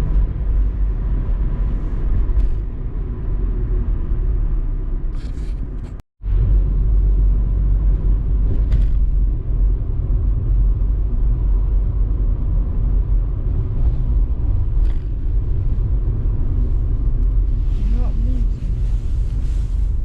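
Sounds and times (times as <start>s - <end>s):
car driving on road: 0.0s - 20.0s.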